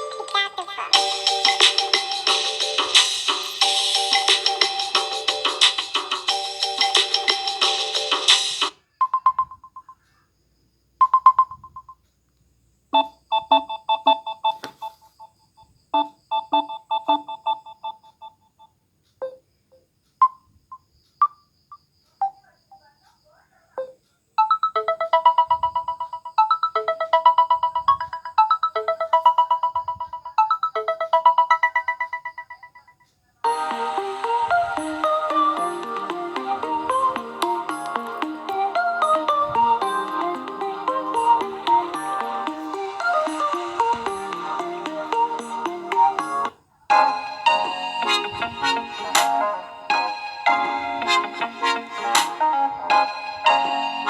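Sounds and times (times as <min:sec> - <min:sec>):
phone ringtone melody: 0:00.0 - 0:09.8, 0:13.0 - 0:15.3, 0:16.0 - 0:18.4, 0:23.8 - 0:54.0.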